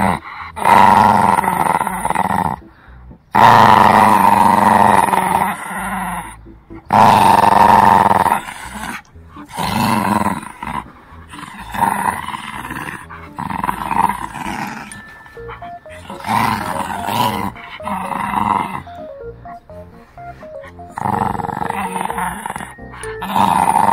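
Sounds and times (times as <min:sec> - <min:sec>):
puppy growling: 0:00.0 - 0:23.9
simple melody background music: 0:00.0 - 0:23.9.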